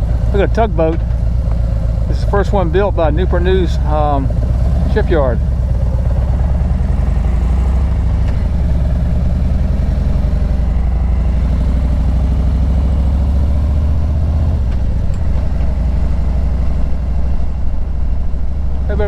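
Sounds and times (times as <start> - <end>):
car engine running: 0.0 - 19.0
road rumble: 0.0 - 19.0.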